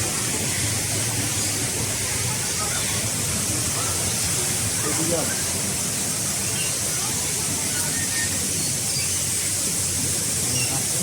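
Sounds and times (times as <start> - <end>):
faint voices: 0.0 - 11.0
steady hiss: 0.0 - 11.0.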